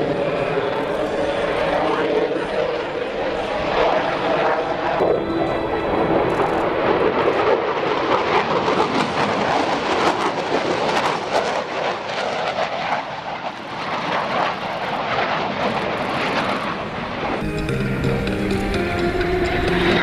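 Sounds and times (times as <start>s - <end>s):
jet noise with crackle: 0.0s - 17.4s.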